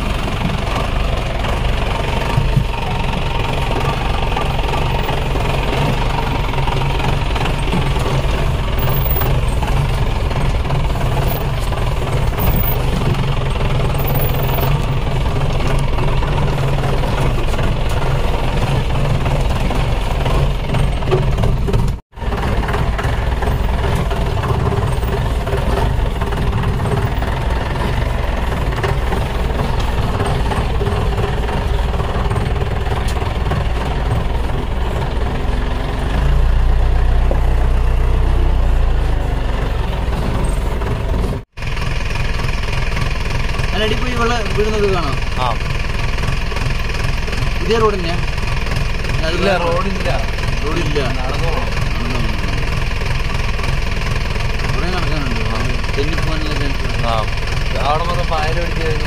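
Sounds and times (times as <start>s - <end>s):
jeep engine clattering: 0.0s - 59.0s.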